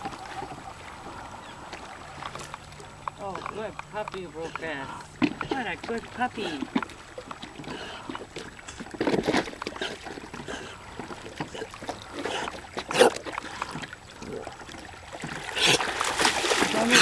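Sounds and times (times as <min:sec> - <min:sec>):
water sloshing from swimming dog: 0:00.0 - 0:17.0.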